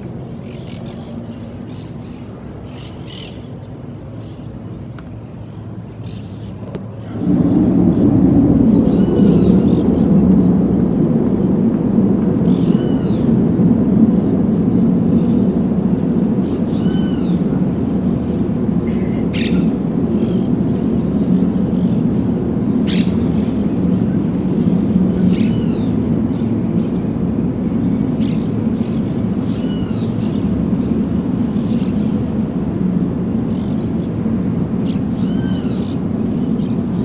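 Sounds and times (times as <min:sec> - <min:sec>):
steady low turbine rumble: 0:00.0 - 0:37.0.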